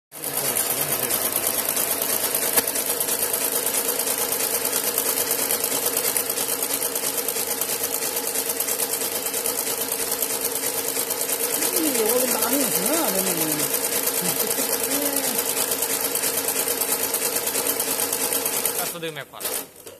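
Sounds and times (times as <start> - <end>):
sewing machine stitching: 0.1 - 19.9.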